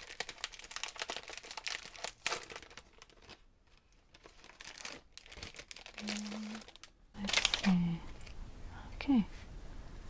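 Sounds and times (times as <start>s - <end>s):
plastic packaging crinkling: 0.0s - 8.3s.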